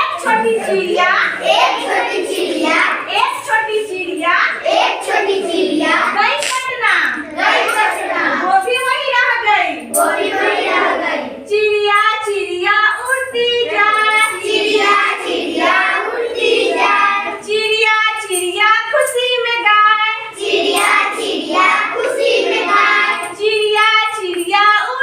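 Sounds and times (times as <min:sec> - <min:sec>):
children singing a rhyme: 0:00.0 - 0:25.0.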